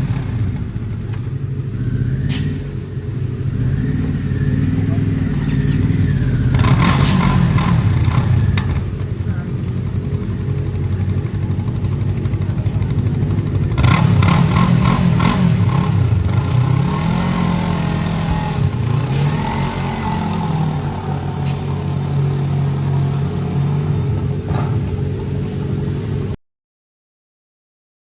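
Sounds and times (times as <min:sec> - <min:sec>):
motorcycle engine revving: 0:00.0 - 0:26.4
motorcycle engines running: 0:00.0 - 0:26.4.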